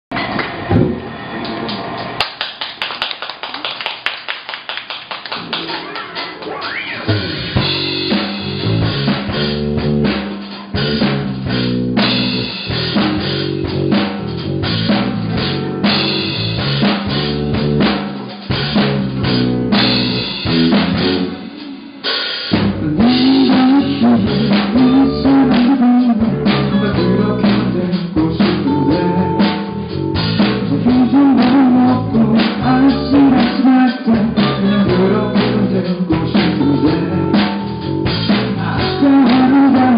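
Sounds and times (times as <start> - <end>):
drum kit beat: 3.2 - 39.9
bass guitar: 5.3 - 39.9
electric guitar: 5.3 - 39.9.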